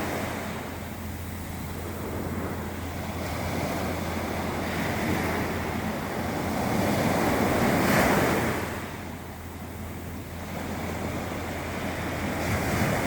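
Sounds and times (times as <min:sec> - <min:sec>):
sea waves breaking: 0:00.0 - 0:13.0
wind noise on microphone: 0:00.0 - 0:13.0.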